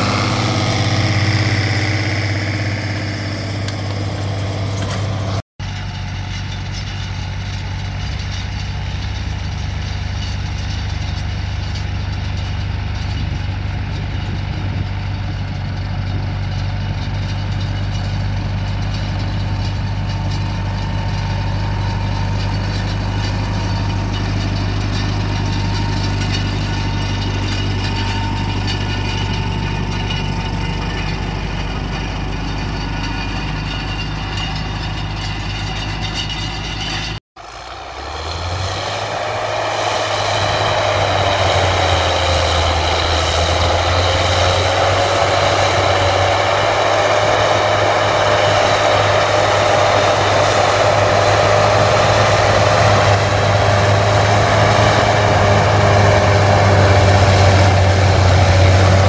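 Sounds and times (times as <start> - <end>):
diesel tractor engines running: 0.0 - 59.0.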